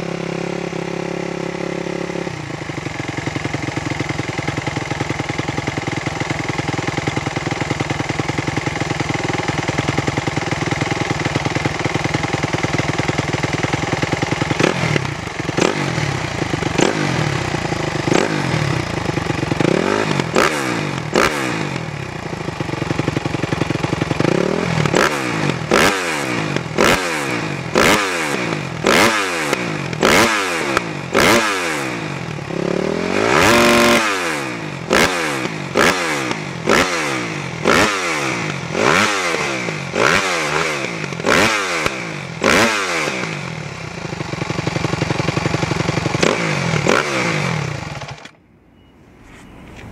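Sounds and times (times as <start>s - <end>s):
motorcycle engine revving: 0.0s - 48.4s.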